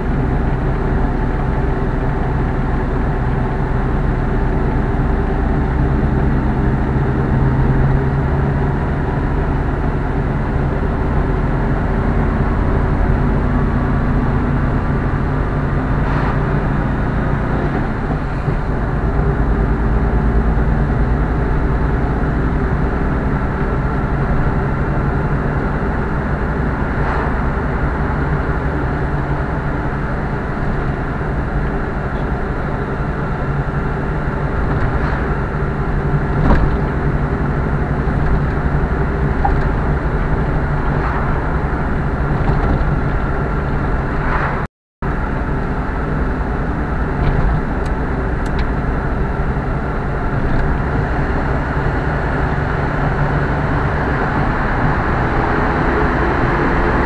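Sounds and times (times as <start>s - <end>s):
car engine and tyre drone: 0.0s - 57.0s.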